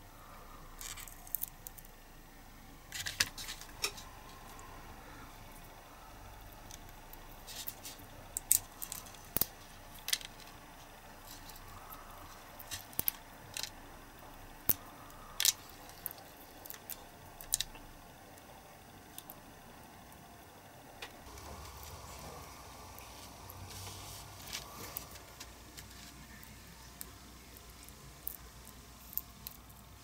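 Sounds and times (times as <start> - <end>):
resin flash crackling and snapping: 0.8 - 2.0, 2.9 - 20.2, 24.4 - 29.9.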